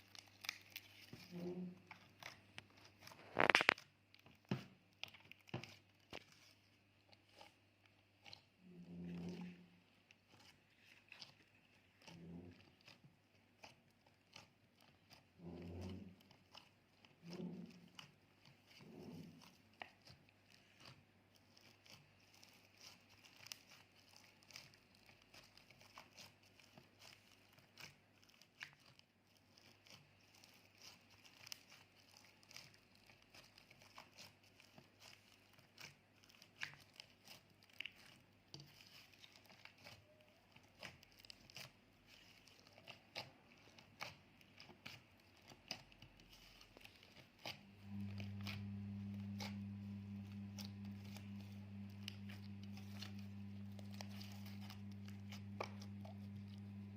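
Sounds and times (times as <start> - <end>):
slime clicking and crackling: 0.0 - 56.9.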